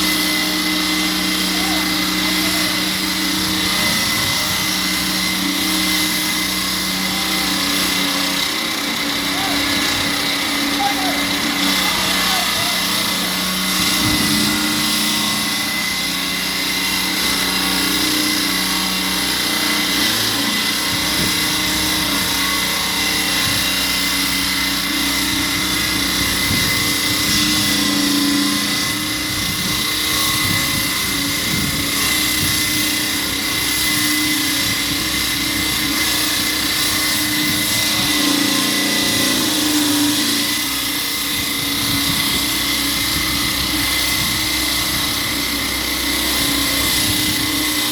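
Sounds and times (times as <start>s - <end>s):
concrete cutting machine whine: 0.0s - 47.9s.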